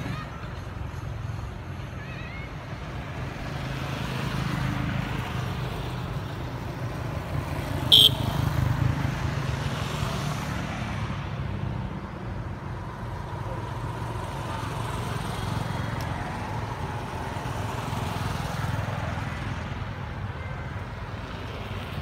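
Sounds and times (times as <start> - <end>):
traffic low hum: 0.0 - 22.0.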